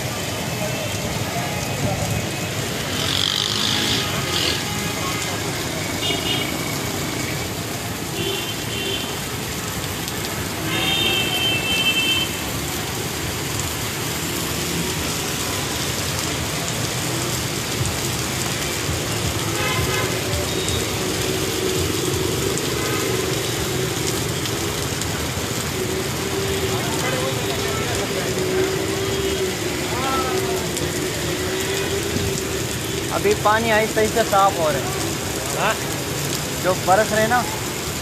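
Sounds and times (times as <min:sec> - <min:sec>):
heavy rain: 0:00.0 - 0:38.0
street traffic: 0:00.0 - 0:38.0.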